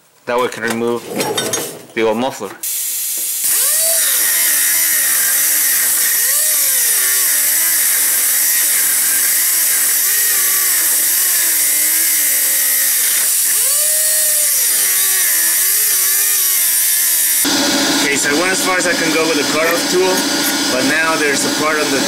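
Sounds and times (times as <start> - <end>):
cutoff wheel cutting metal pipe: 3.4 - 22.0.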